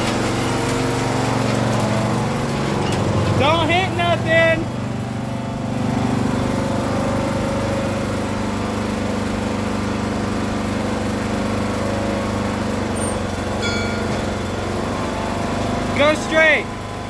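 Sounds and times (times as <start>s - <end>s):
lawn tractor engine running: 0.0s - 17.0s.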